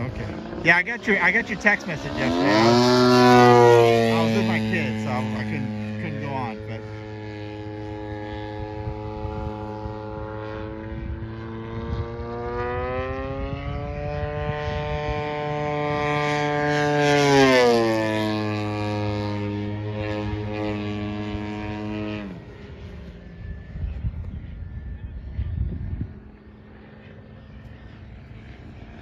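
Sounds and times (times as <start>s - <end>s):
model airplane motor whine: 0.0s - 29.0s.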